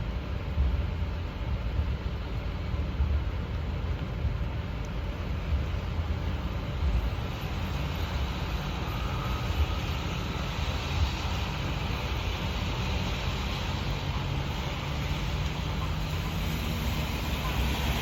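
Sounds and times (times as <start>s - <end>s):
tyres hissing on wet road: 0.0s - 18.0s.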